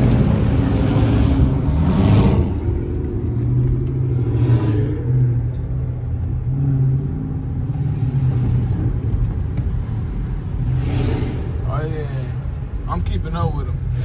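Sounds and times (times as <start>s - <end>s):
car engine droning inside car: 0.0s - 12.8s.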